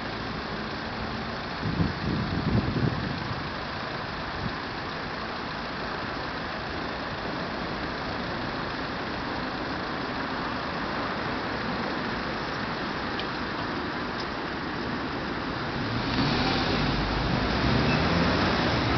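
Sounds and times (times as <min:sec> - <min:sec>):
cars idling: 0:00.0 - 0:18.9
street traffic noise: 0:00.0 - 0:18.9.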